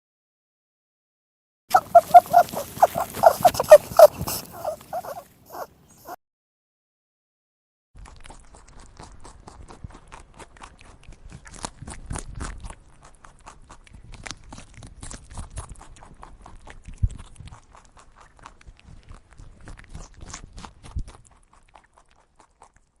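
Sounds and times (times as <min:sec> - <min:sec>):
farm animal crunching: 0:01.7 - 0:05.7, 0:08.0 - 0:23.0.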